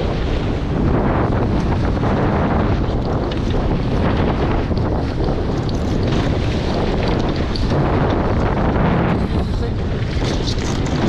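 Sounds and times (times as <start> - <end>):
water rushing past hulls: 0.0 - 11.0
wind buffeting microphone: 0.0 - 11.0.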